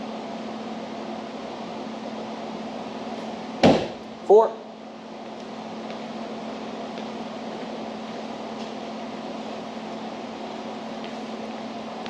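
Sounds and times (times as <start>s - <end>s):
ventilation fan humming: 0.0s - 12.0s.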